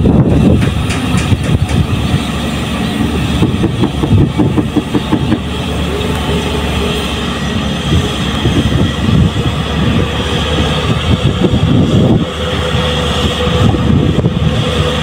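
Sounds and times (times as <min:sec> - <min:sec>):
excavator diesel engine rumbling: 0:00.0 - 0:15.0.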